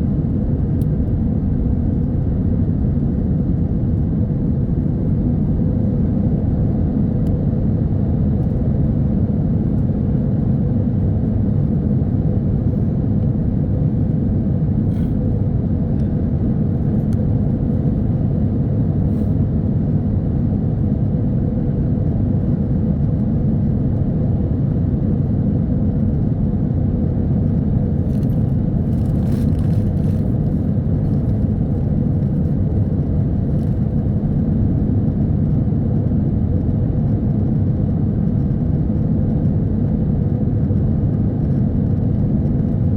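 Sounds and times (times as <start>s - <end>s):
airliner engine rumble: 0.0s - 42.9s.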